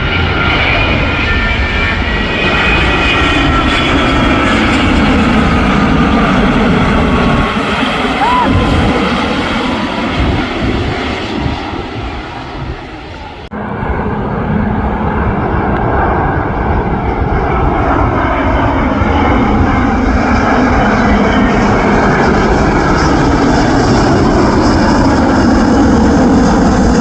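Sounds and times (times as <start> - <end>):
jet engines roaring overhead: 0.0 - 27.0.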